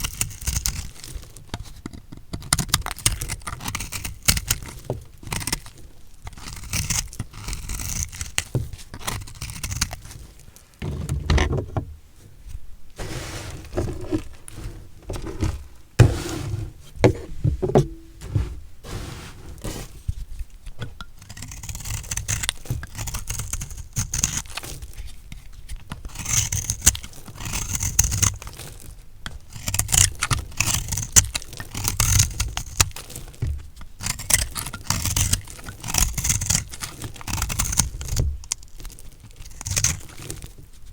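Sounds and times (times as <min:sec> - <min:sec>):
knife cutting through soap: 0:00.0 - 0:12.4, 0:13.0 - 0:40.7.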